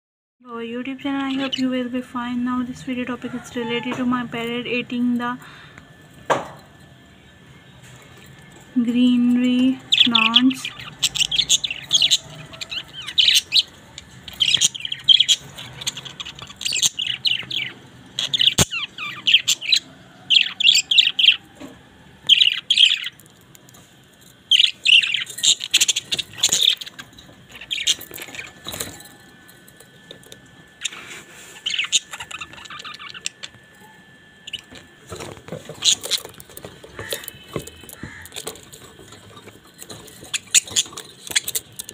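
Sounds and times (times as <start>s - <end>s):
parrots chirping and chattering: 1.0s - 41.9s.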